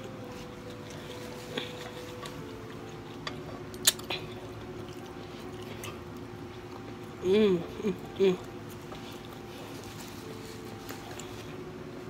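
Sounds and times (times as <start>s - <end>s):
person chewing: 0.0s - 7.2s, 8.0s - 11.6s
faint steady hum: 0.0s - 12.0s.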